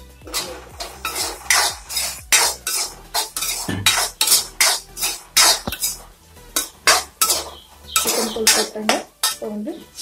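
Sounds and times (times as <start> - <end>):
spoon scraping metal pan: 0.2 - 10.0.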